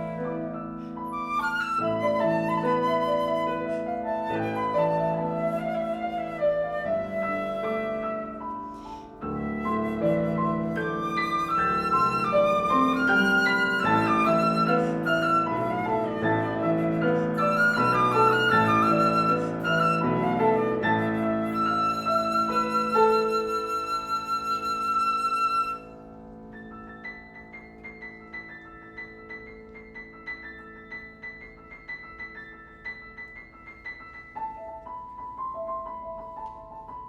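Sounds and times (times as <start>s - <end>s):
flute melody: 0.0s - 37.0s
piano chords: 0.0s - 37.0s.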